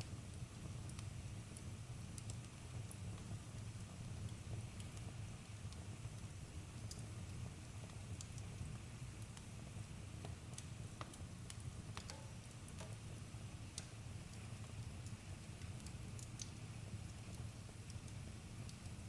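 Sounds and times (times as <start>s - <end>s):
low rumble of flames: 0.0s - 19.0s
campfire crackling: 0.1s - 19.0s.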